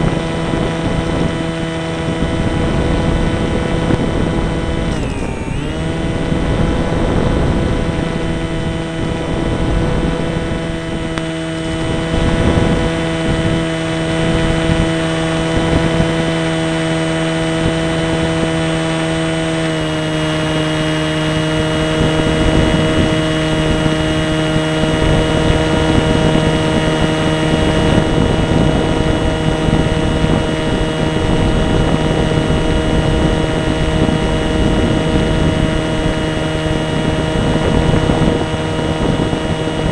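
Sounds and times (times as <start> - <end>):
model airplane motor and propeller: 0.0 - 39.9.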